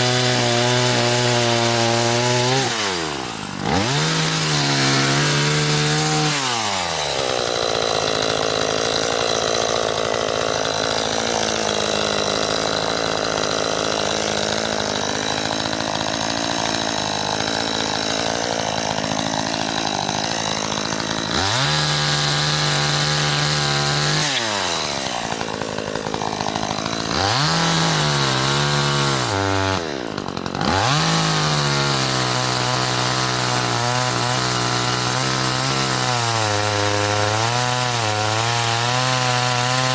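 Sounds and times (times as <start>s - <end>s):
chainsaw cutting branch: 0.0s - 39.9s.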